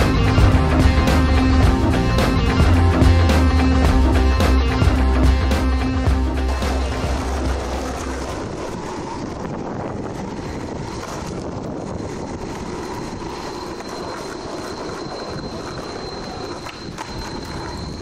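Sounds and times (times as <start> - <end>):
skateboard wheels rolling on asphalt: 0.0 - 18.0.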